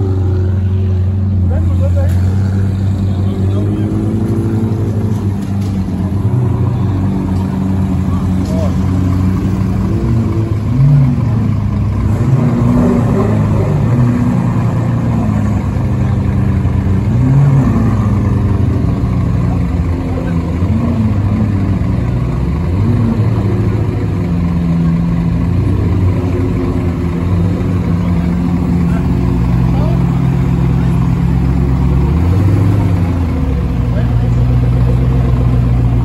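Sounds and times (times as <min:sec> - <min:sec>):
car engine at low speed: 0:00.0 - 0:36.0.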